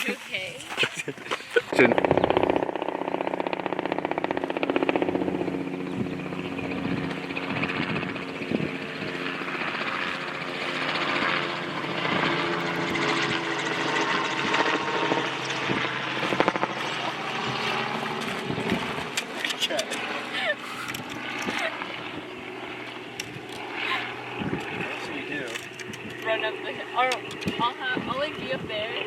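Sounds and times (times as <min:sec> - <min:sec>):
engine drone: 0:01.2 - 0:29.0.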